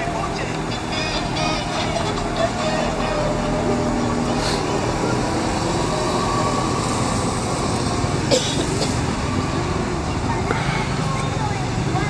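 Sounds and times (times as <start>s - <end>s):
cars driving slowly past: 0.0s - 12.0s.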